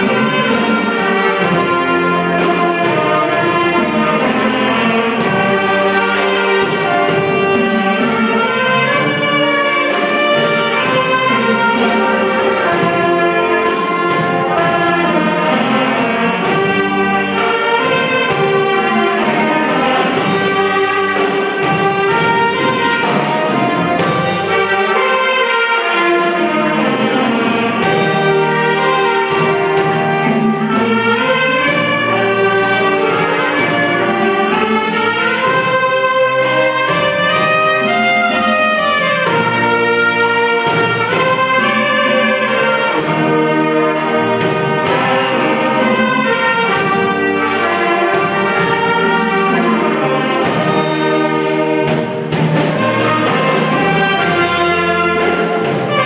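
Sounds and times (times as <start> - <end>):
brass band playing: 0.0 - 56.0
drum kit steady beat: 0.0 - 56.0
saxophones and brass melody: 0.0 - 56.0.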